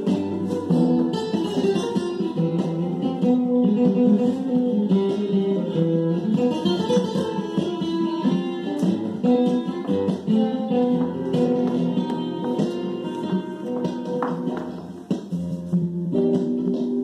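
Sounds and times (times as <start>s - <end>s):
flamenco guitar music: 0.0s - 17.0s.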